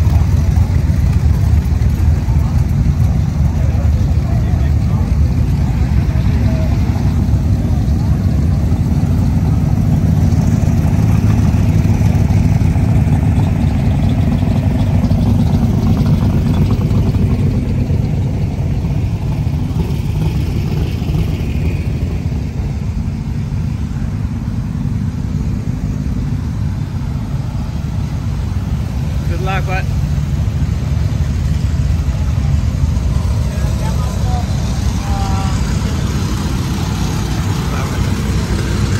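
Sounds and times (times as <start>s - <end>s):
car engines idling: 0.0s - 38.9s.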